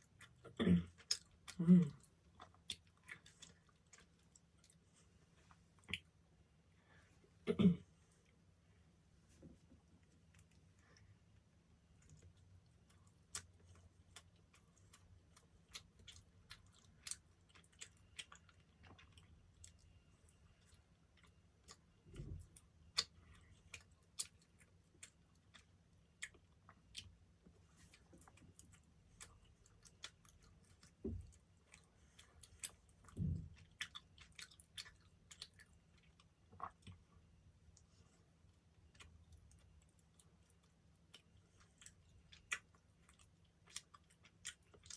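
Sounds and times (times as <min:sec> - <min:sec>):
chewing soft pastry: 0:00.0 - 0:07.1, 0:08.0 - 0:44.9.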